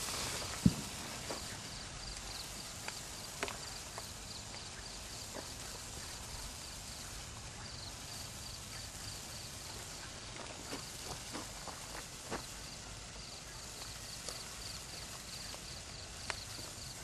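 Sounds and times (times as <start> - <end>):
sparkler crackles: 0.0 - 17.0
sparkler fizzing hiss: 0.0 - 17.0.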